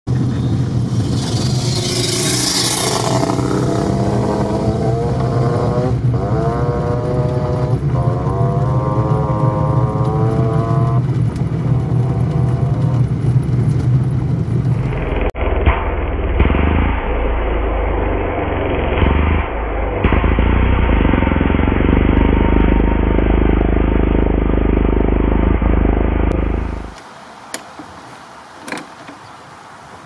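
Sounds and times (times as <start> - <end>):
two-stroke quad engine revving: 0.1 - 15.4, 16.3 - 26.9.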